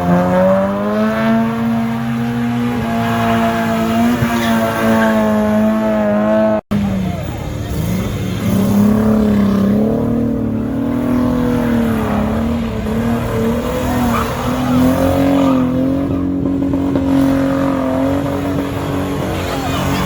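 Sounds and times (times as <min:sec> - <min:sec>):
car engine at high revs: 0:00.0 - 0:20.0.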